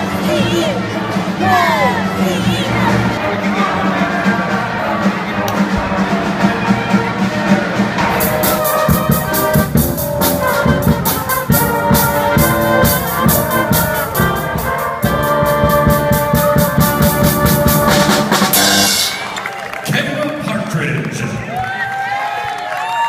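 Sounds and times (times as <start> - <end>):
drum kit beat: 0.0 - 19.6
brass band playing: 0.0 - 20.9.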